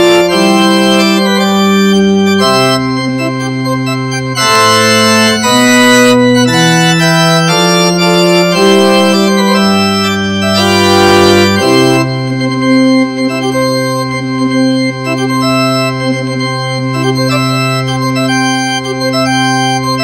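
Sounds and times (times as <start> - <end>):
organ playing slow chords: 0.0 - 20.0.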